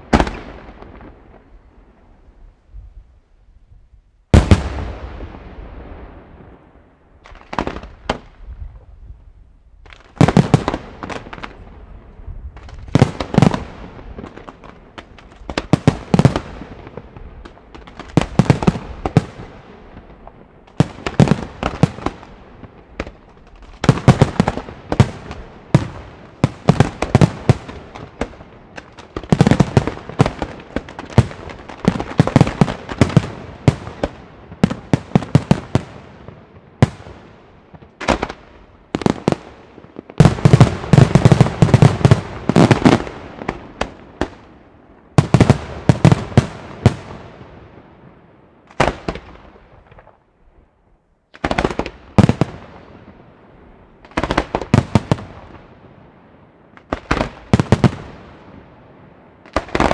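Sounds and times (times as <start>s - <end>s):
fireworks bursting bangs: 0.0s - 1.5s, 4.3s - 6.6s, 7.2s - 8.4s, 9.9s - 11.9s, 12.5s - 47.9s, 48.7s - 50.2s, 51.4s - 53.2s, 54.0s - 55.8s, 56.8s - 58.7s, 59.4s - 59.9s.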